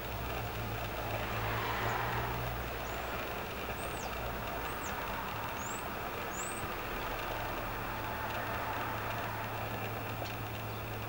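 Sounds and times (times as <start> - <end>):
vehicle traffic rumble: 0.0 - 11.0.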